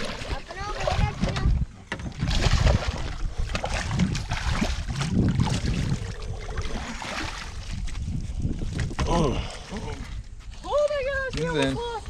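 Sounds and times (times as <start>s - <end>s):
water sloshing around boat: 0.0s - 12.0s
wind buffeting microphone: 0.0s - 12.0s.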